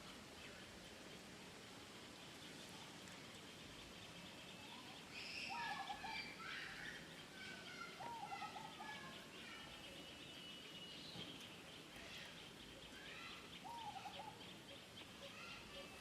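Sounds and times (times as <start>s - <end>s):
birds calling and chirping: 0.0s - 16.0s
steady background hiss: 0.0s - 16.0s.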